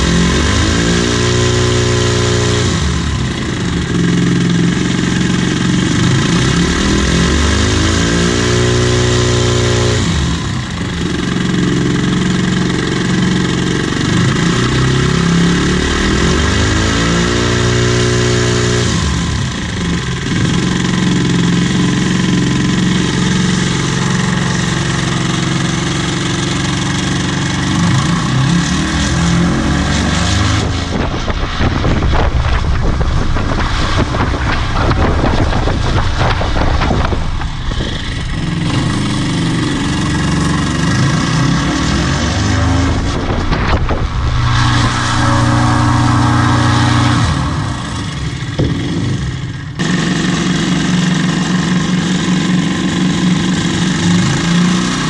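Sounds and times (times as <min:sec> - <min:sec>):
paramotor engine running hard: 0:00.0 - 0:55.0.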